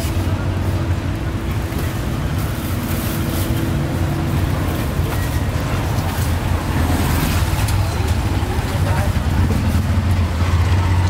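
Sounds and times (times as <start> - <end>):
motor engines running: 0.0 - 11.0.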